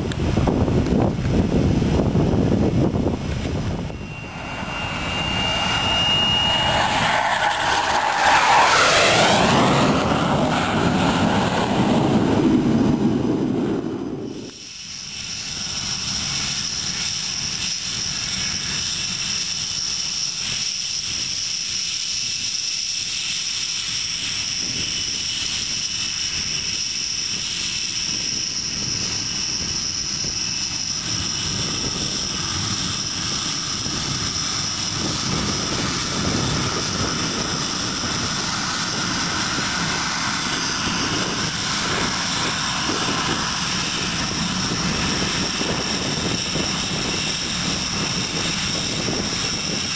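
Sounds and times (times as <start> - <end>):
aircraft engine whining: 0.0 - 49.9.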